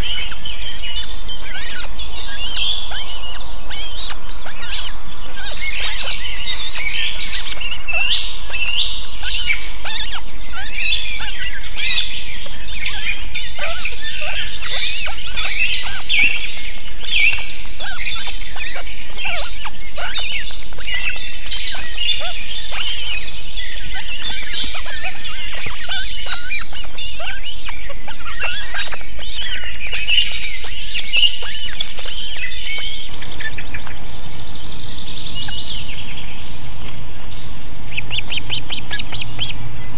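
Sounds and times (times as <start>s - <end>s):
chorus of bird chirps: 0.0s - 39.9s.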